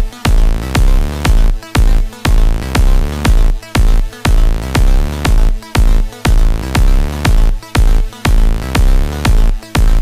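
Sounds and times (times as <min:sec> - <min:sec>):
deep bass line: 0:00.0 - 0:10.0
electronic dance music: 0:00.0 - 0:10.0
heavy kick drum beat: 0:00.0 - 0:10.0.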